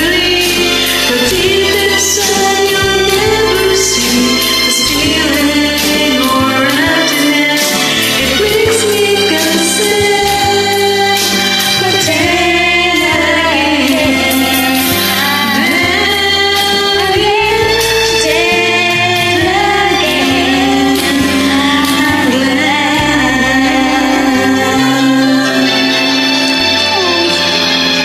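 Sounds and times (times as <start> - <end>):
instrumental backing track: 0.0 - 28.0
women singing karaoke duet: 0.0 - 28.0.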